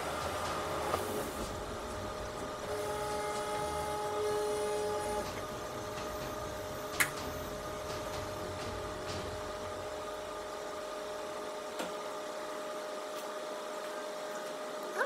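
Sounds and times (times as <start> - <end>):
kitchen machine hum: 0.0 - 15.0.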